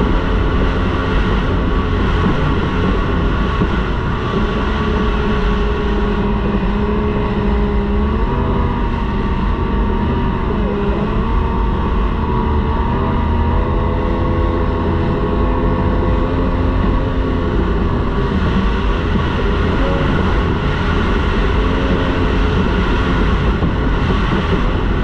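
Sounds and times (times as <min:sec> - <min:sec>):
outboard motor at full speed: 0:00.0 - 0:25.0
rush of wind and water: 0:00.0 - 0:25.0.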